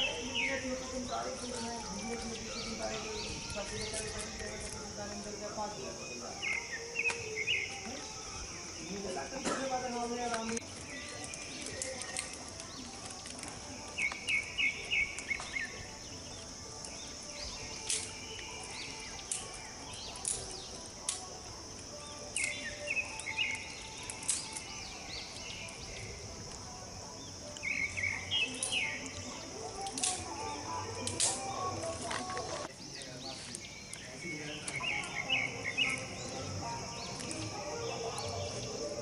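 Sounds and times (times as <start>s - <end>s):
birds chirping rapidly: 0.0s - 39.0s
steady high hiss: 0.0s - 39.0s.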